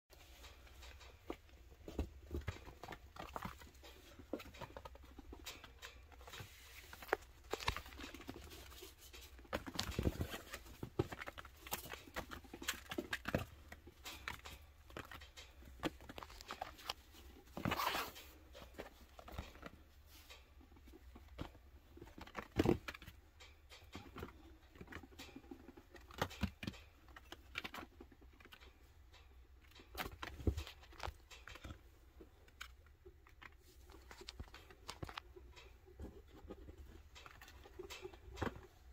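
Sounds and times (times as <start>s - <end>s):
small animals scuffling: 0.1s - 38.9s
small paws pattering and scrabbling: 0.1s - 38.9s.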